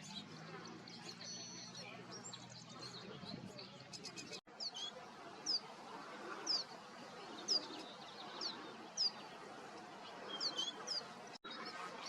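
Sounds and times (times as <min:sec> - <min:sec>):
songbird calling: 0:00.0 - 0:12.0.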